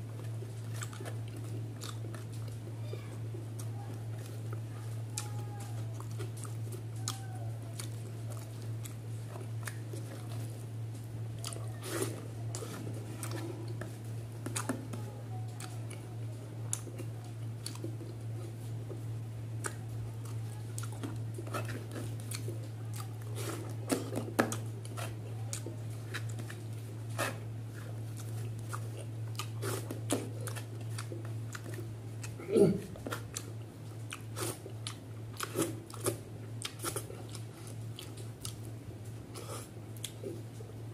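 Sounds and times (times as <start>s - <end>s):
person chewing: 0.0s - 40.9s
steady low hum: 0.0s - 40.9s.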